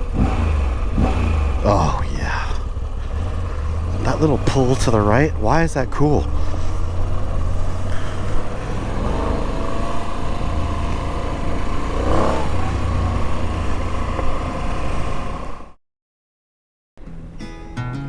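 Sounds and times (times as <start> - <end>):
motorcycle engine idling: 0.0 - 15.5.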